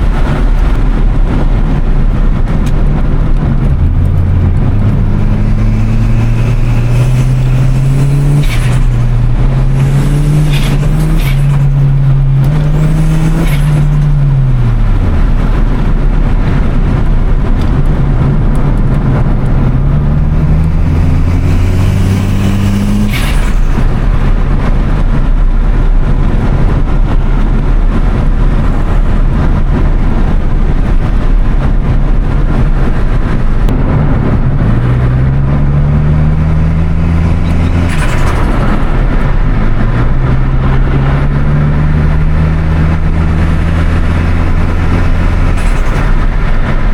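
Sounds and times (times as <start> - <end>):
road noise: 0.0 - 46.9
turbocharged car engine accelerating: 0.0 - 46.9.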